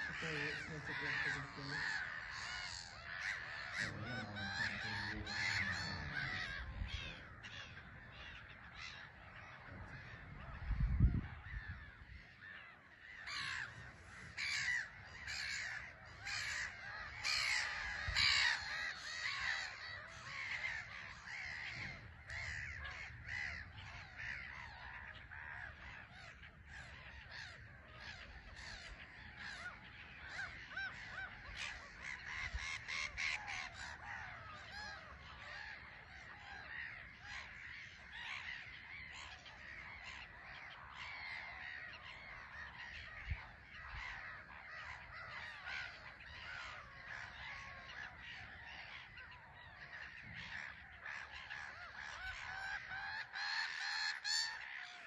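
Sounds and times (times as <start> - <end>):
gulls calling harshly: 0.0 - 55.0.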